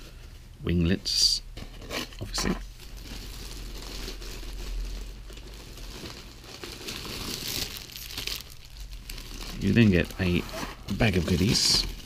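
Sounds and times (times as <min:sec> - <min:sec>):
plastic bag crinkling: 0:02.2 - 0:12.0.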